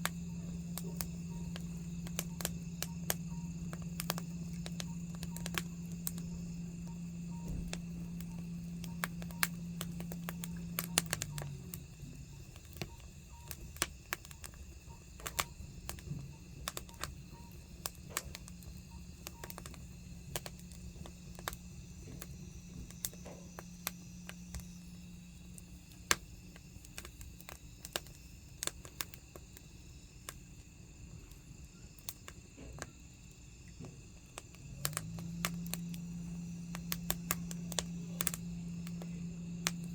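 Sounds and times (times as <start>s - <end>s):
firewood crackling and popping: 0.0s - 39.9s
low steady hum: 0.0s - 39.9s.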